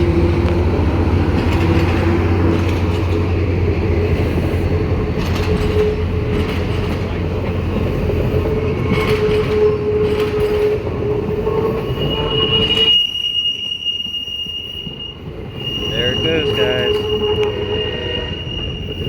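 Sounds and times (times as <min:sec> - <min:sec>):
rail joint clacks: 0:00.0 - 0:19.0
train rumble: 0:00.0 - 0:19.0
train wheels squealing: 0:00.0 - 0:19.0.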